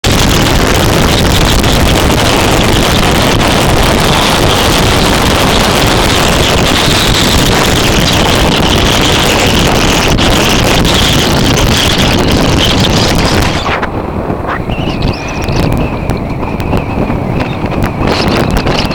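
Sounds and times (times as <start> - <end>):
motorcycle engine: 0.0 - 18.9
wind rushing over microphone: 0.0 - 18.9.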